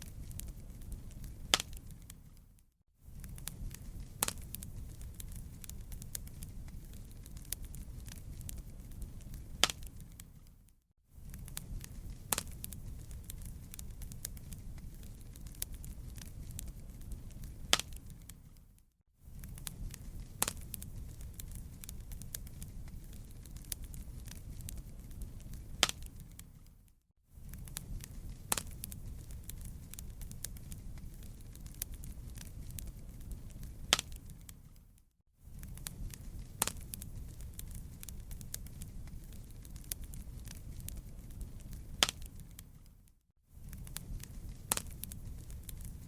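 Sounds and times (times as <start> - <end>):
sharp fire pops: 0.0 - 10.6, 11.2 - 18.7, 19.3 - 34.9, 35.5 - 43.0, 43.6 - 46.0
campfire flames rumbling: 0.0 - 46.0
small fire crackles: 0.0 - 46.0.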